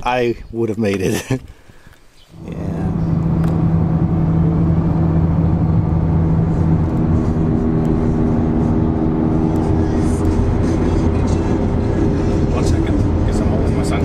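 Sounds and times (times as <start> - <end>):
car engine and road noise: 2.1 - 14.0.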